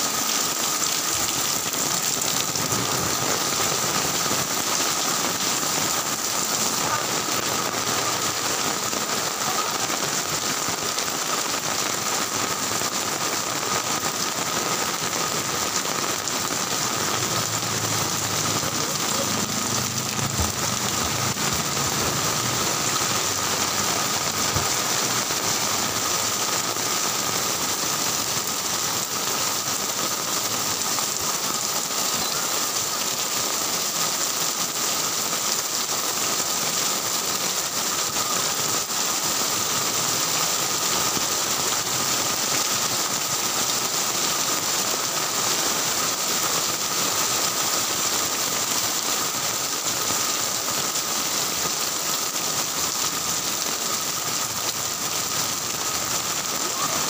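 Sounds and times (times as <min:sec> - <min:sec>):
heavy rain on a street: 0:00.0 - 0:57.0.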